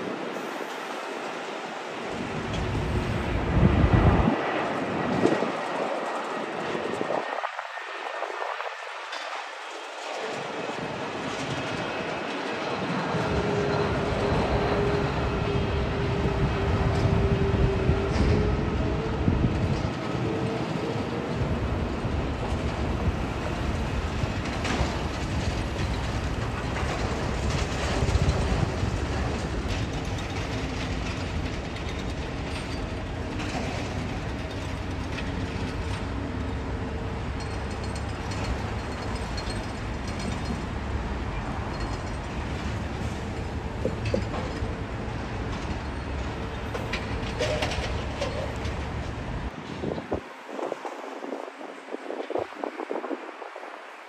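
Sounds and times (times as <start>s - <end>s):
jet airliner rumble: 0.0s - 54.0s
road traffic passing: 9.7s - 54.0s.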